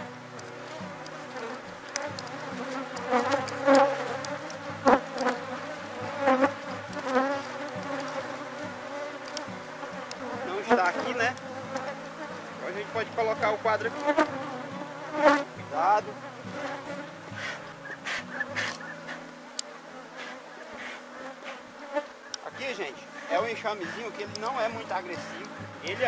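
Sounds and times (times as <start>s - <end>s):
bee flying close past: 0.0s - 26.0s
bees buzzing: 0.0s - 26.0s.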